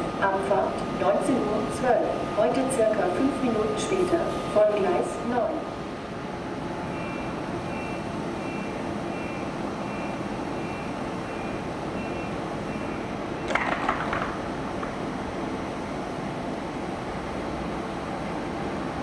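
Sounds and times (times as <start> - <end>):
railway station background noise: 0.0 - 19.0.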